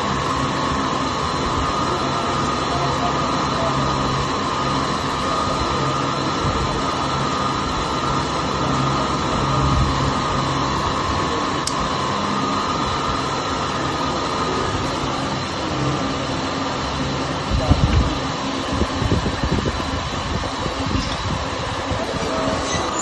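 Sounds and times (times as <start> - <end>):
mechanical drone with whine: 0.0 - 23.0.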